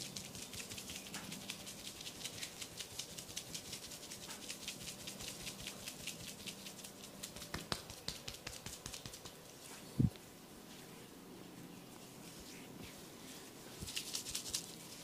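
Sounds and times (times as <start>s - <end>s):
rubbing and scratching hair: 0.0s - 15.0s.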